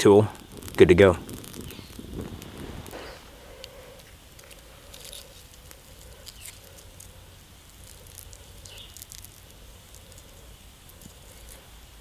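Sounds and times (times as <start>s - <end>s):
fish skin tearing crackles: 0.4s - 11.7s.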